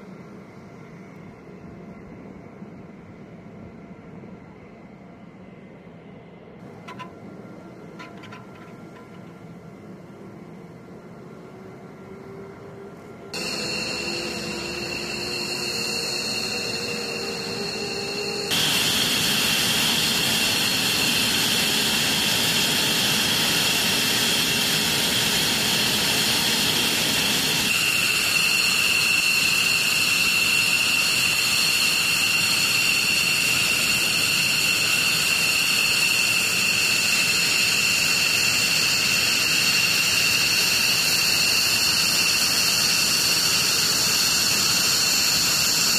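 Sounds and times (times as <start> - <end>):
jet engines running: 0.0 - 45.9
high-pitched engine whine: 6.8 - 45.9.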